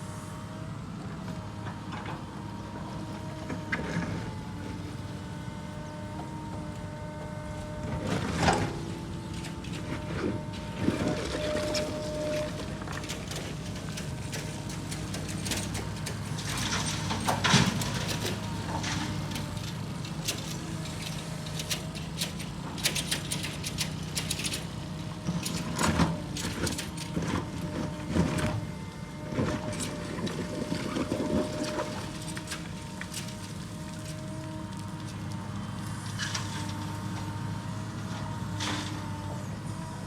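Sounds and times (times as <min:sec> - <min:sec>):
excavator diesel engine: 0:00.0 - 0:40.0.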